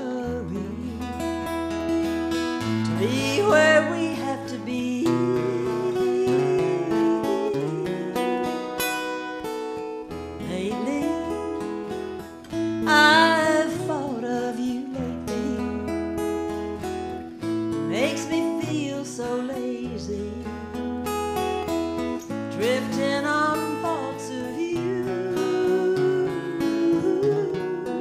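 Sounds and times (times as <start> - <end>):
woman singing with vibrato: 0.0 - 9.5, 10.3 - 12.0, 12.6 - 15.9, 17.7 - 20.8, 22.4 - 28.0
acoustic guitar strummed: 0.0 - 28.0.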